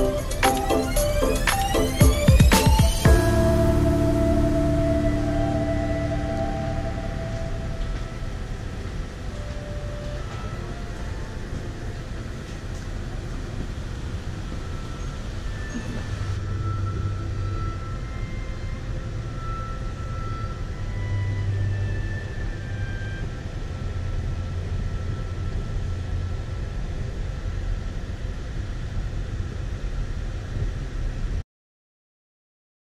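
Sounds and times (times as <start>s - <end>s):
faint high-pitched tones: 0.0s - 29.5s
freight train rumbling past: 0.0s - 29.6s.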